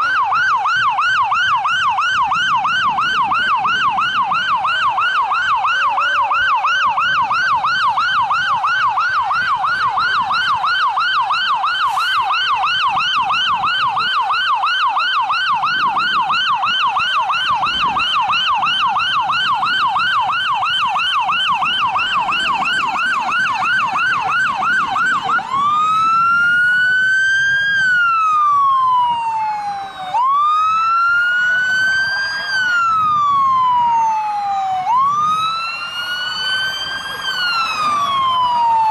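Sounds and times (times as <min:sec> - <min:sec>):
siren yelp and wail: 0:00.0 - 0:38.9.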